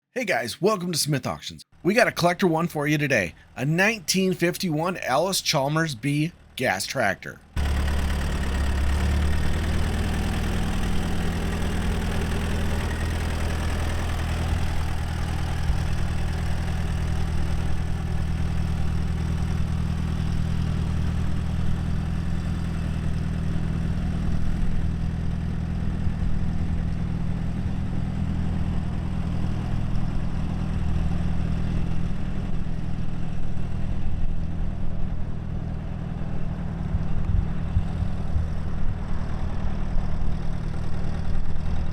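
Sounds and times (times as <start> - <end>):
tractor engine idling: 0.2 - 41.9.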